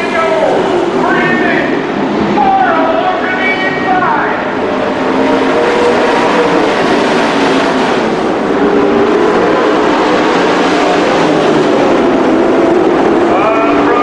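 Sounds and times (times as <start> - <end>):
race truck engines running hard: 0.0 - 14.0.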